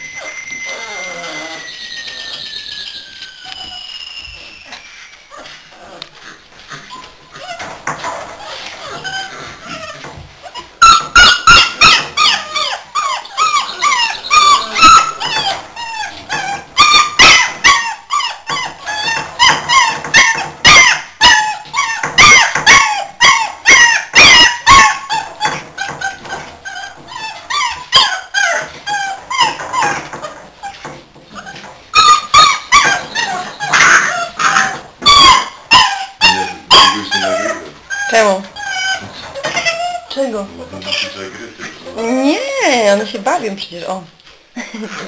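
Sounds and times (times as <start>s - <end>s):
puppies yelping and barking: 0.0s - 43.4s.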